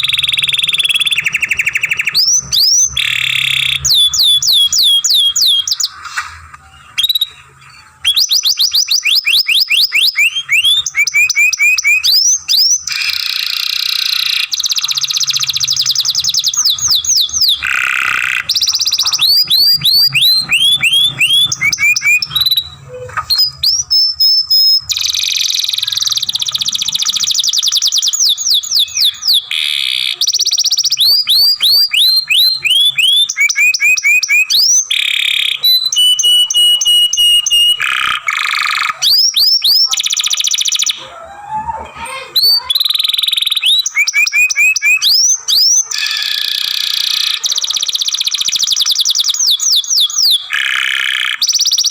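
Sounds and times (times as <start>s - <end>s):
canary singing: 0.0s - 51.9s.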